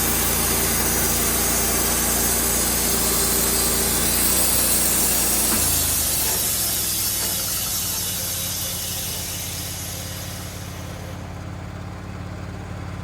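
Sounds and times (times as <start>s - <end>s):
saw cutting wood hiss: 0.0s - 11.4s
sawmill engine: 0.0s - 13.0s.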